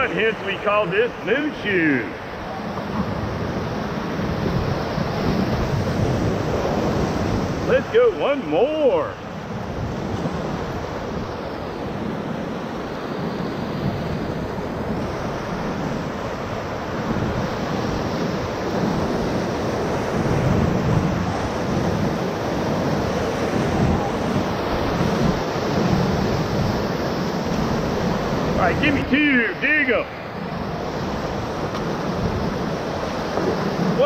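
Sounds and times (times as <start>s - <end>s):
whitewater rapids rushing: 0.0s - 9.8s, 14.3s - 34.0s.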